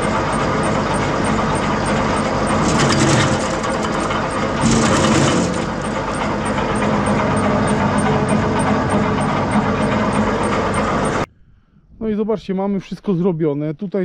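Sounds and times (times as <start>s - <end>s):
wood chipper chipping branches: 0.0s - 11.2s.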